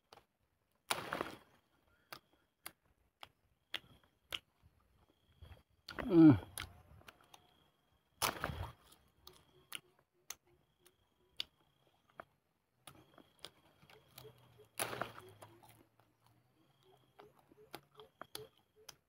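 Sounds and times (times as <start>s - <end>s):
person chewing leaves: 0.0s - 19.0s.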